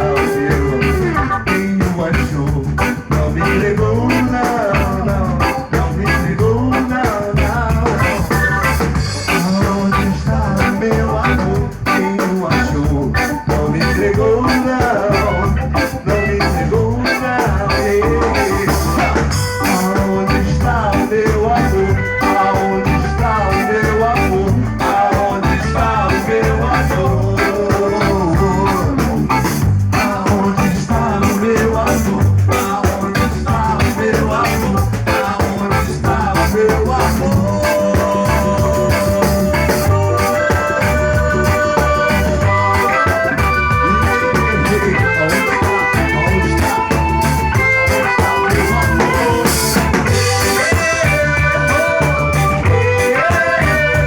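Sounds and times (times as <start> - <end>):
reggae band playing: 0.0 - 54.0.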